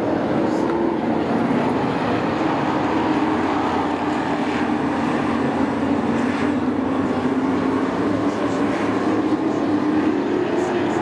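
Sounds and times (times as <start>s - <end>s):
race truck engines droning: 0.0s - 11.0s.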